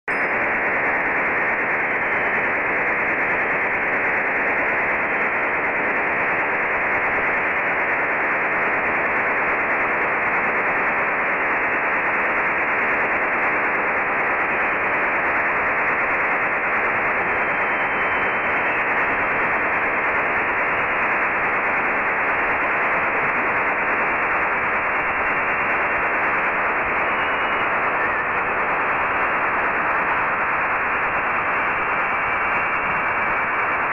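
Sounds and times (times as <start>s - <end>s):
radio data signal hiss: 0.2s - 33.9s.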